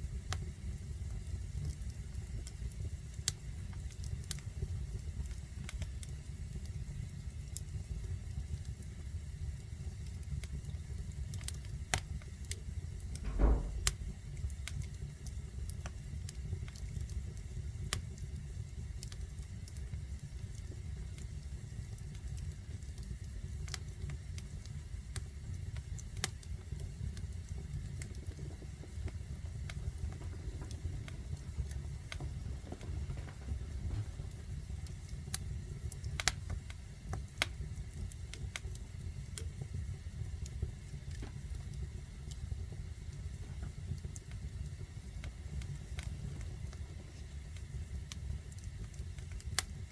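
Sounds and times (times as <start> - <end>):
fire crackling and popping: 0.0 - 49.9
fire rumbling: 0.0 - 49.9.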